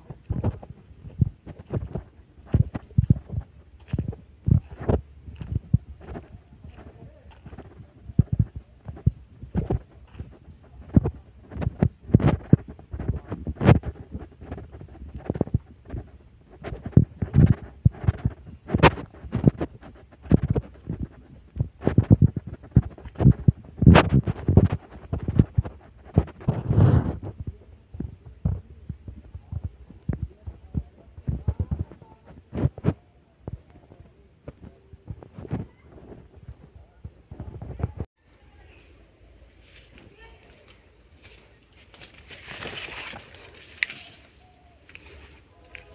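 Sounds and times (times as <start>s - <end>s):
microphone handling thumps: 0.0s - 38.1s
footsteps on dirt path: 0.0s - 45.9s
wind rumble on microphone: 0.0s - 45.9s.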